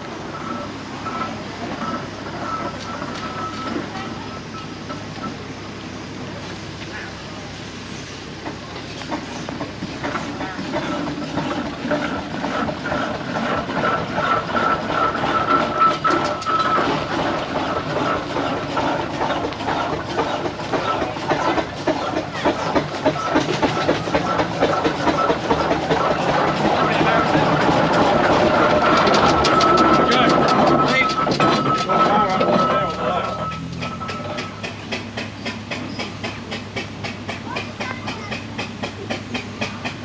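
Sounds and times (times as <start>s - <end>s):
steam engine chuffing: 0.0s - 40.0s
steam engine clanking motion: 0.0s - 40.0s.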